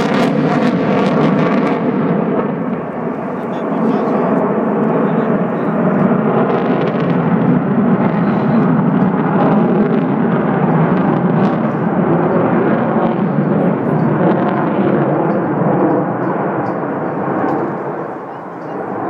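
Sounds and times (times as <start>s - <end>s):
jet aircraft flying overhead: 0.0s - 19.0s.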